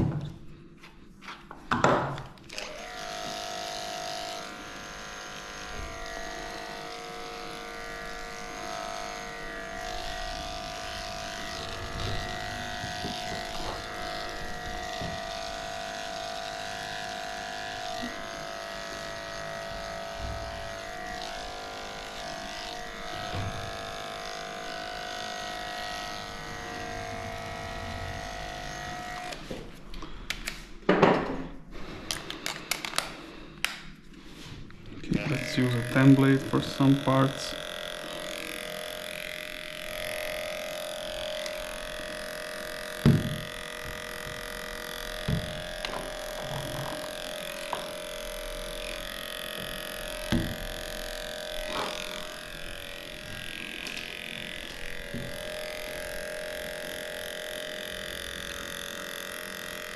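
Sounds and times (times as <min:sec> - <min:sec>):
electric clipper humming: 0:02.1 - 0:30.6, 0:34.8 - 0:59.9.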